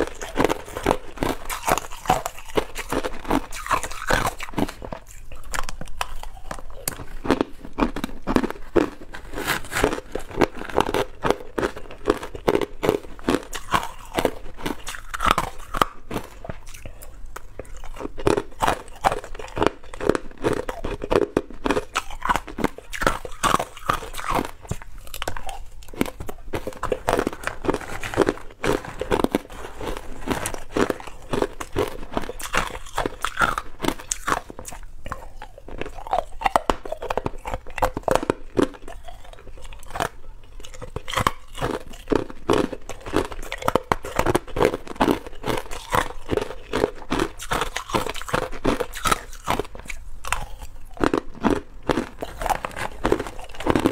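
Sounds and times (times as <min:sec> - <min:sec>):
ice cubes crunched in mouth: 0:00.0 - 0:53.9.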